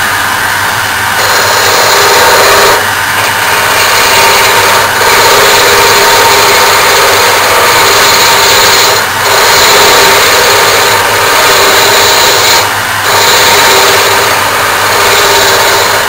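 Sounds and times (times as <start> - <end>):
dust extractor drone: 0.0 - 16.0
lathe tool cutting wood: 0.0 - 16.0.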